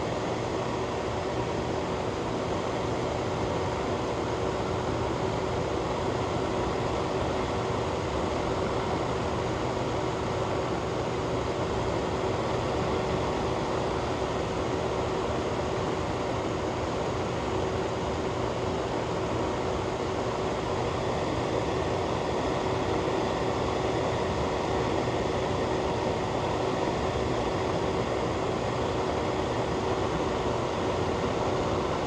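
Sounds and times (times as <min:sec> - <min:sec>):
faint steady hum: 0:00.0 - 0:32.0
ventilation fan whoosh: 0:00.0 - 0:32.0.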